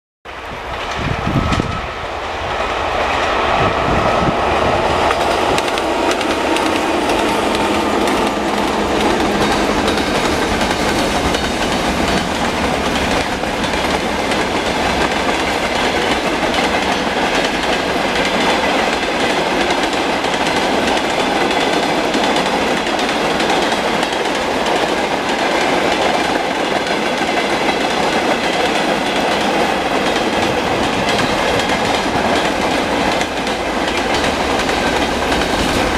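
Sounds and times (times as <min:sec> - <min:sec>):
freight train rumbling past: 0:00.3 - 0:35.9.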